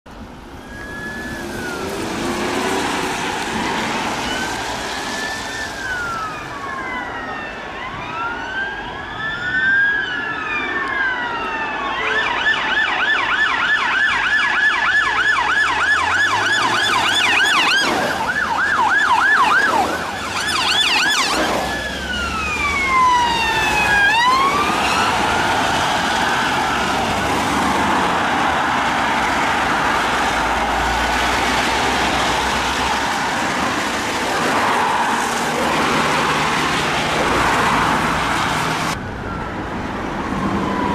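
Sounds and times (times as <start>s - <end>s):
traffic noise: 0.0s - 40.9s
police sirens wailing and yelping: 0.2s - 40.9s.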